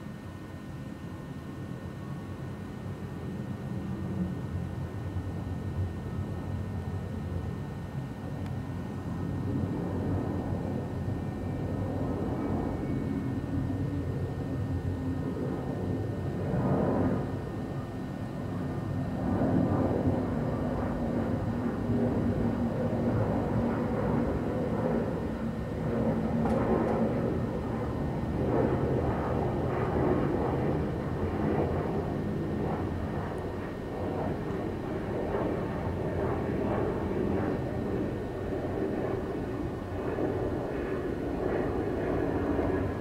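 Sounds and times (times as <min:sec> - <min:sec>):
jet engine rumble: 0:00.0 - 0:43.0
low hum: 0:00.0 - 0:43.0.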